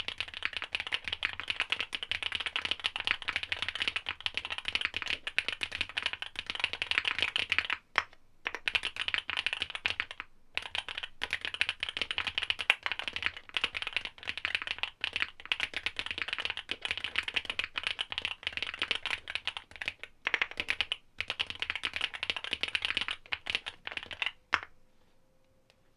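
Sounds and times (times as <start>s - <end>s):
mechanical keyboard typing: 0.0s - 7.8s, 8.5s - 24.4s.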